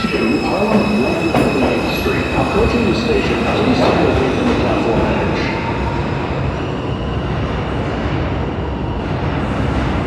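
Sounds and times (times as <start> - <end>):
subway train rumbling on rails: 0.0 - 10.0.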